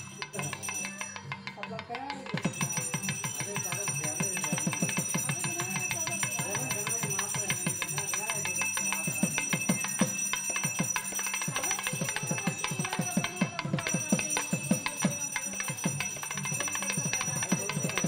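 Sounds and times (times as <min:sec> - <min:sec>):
hand bell ringing rapidly: 0:00.0 - 0:18.0.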